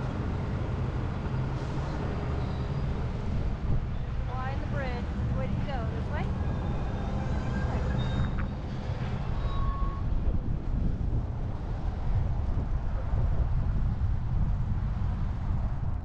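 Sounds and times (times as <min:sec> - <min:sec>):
engine and road noise in cabin: 0:00.0 - 0:16.0.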